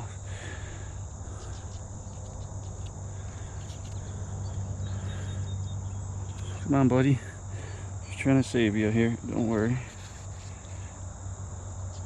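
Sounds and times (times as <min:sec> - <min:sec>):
insect chorus chirring: 0:00.0 - 0:12.0
low hum: 0:00.0 - 0:12.0.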